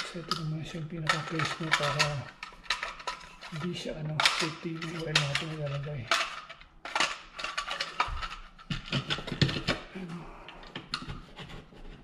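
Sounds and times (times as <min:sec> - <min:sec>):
plastic parts clicking and rattling: 0:00.0 - 0:12.0.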